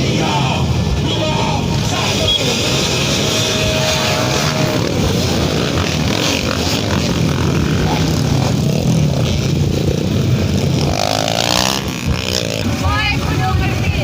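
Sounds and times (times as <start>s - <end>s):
motorcycle engine running: 1.8s - 14.0s.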